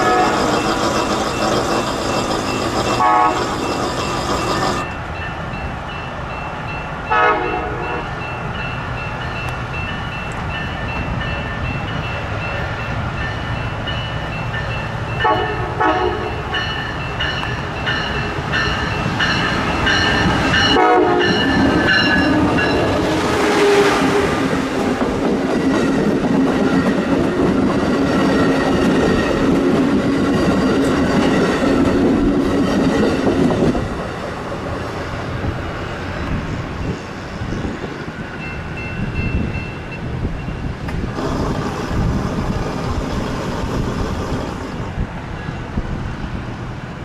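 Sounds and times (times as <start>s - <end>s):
train passing: 0.0s - 47.0s.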